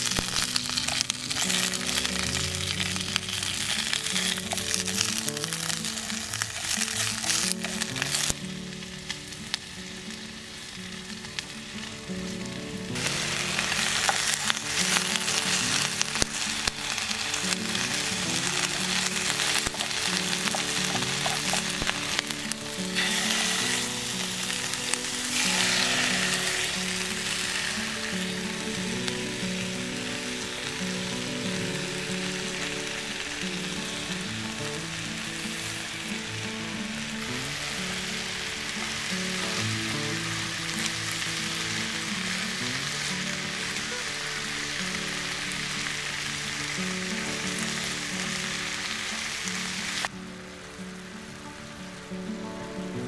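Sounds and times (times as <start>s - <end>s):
vegetables sizzling in a pan: 0.0s - 53.0s.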